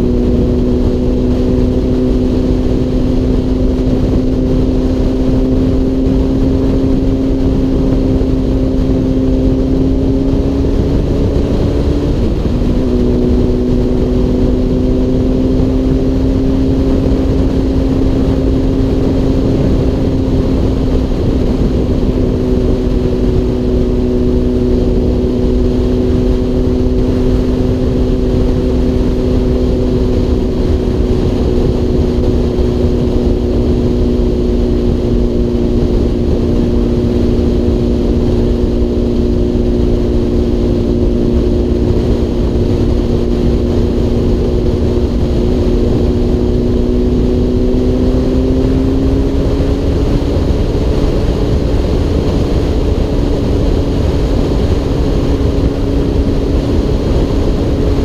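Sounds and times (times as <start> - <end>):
motorcycle engine droning: 0.0 - 58.0
wind rumble on microphone: 0.0 - 58.0.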